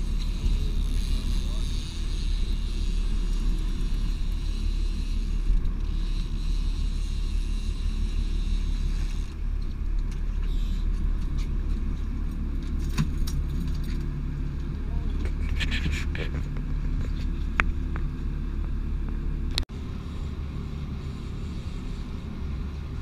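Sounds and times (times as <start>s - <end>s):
boat engine rumble: 0.0s - 23.0s
wind and water noise: 0.0s - 23.0s.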